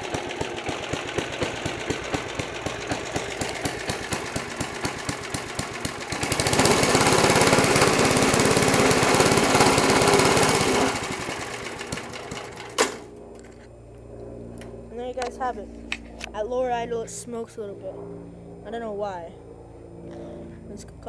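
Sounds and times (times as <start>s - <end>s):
lawnmower engine idling and revving: 0.0s - 16.9s.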